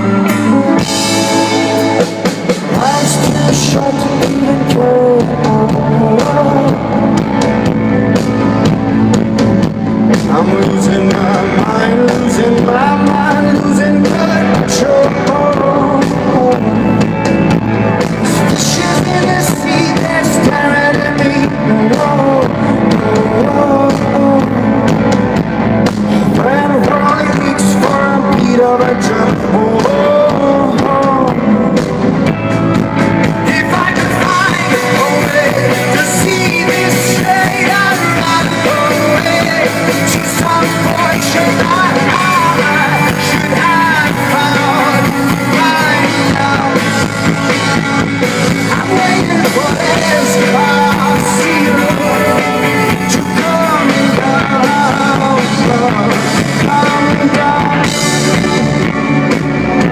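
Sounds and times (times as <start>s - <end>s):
electric guitar: 0.0s - 59.9s
live rock band playing: 0.0s - 59.9s
person singing: 0.0s - 59.9s.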